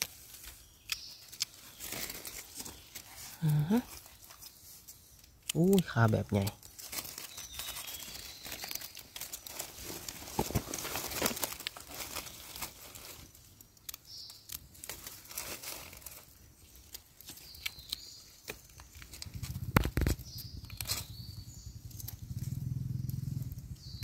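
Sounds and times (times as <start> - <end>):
dry leaves rustling: 0.0 - 24.0.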